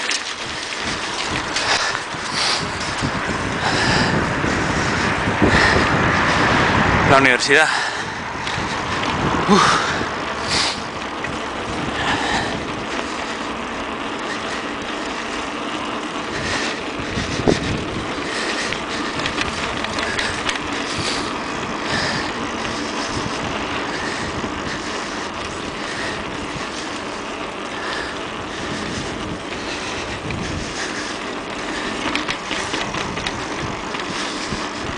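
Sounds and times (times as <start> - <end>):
wind on microphone: 0.0 - 14.7, 15.9 - 34.9
bicycle tyres rolling over paving: 0.0 - 34.9.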